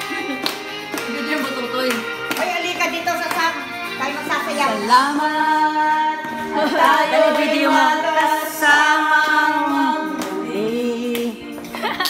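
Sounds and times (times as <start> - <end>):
music with sustained singing: 0.0 - 12.0.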